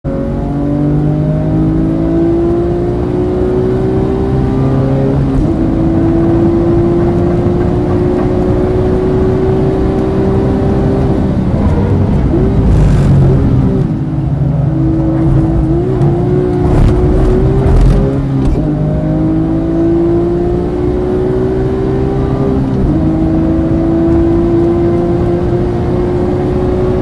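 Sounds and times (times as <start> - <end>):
car engine at full throttle: 0.0 - 27.0
throttle blips on downshifts: 0.1 - 27.0.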